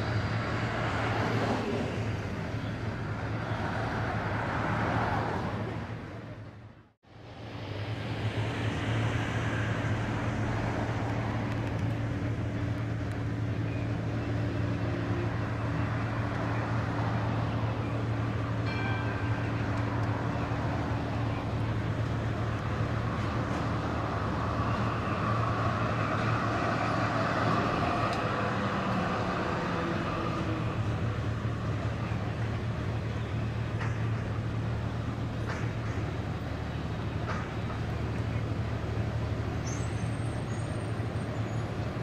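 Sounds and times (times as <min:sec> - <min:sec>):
road and wheel noise: 0:00.0 - 0:42.0
tram electrical hum: 0:00.0 - 0:42.0.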